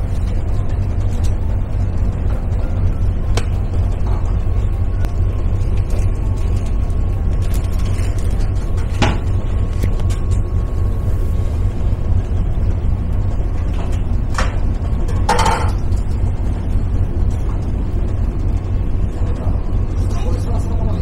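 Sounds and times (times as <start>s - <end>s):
ferry engines rumbling: 0.0s - 21.0s.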